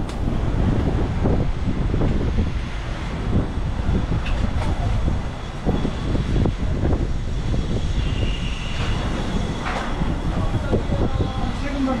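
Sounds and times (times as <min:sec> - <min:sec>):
low rumble of vehicles: 0:00.0 - 0:12.0.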